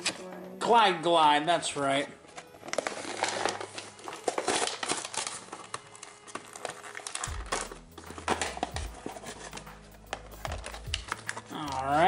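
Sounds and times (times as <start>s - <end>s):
plastic packaging crinkling: 2.1s - 12.0s.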